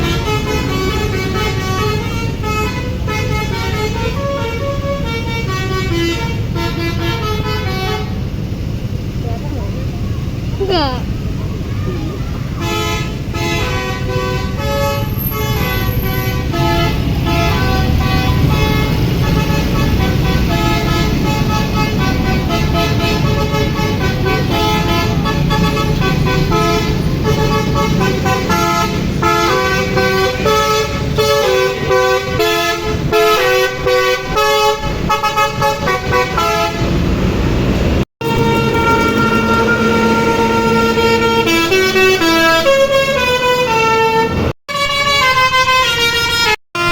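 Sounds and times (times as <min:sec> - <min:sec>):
musical air horns: 0:00.0 - 0:08.3, 0:12.6 - 0:37.0, 0:38.2 - 0:46.9
bus engines rumbling: 0:00.0 - 0:46.9.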